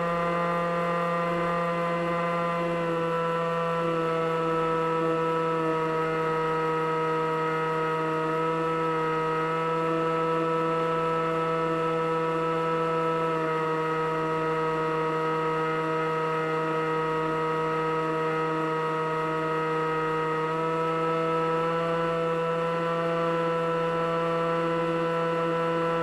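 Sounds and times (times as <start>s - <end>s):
model plane motor whine: 0.0s - 26.0s.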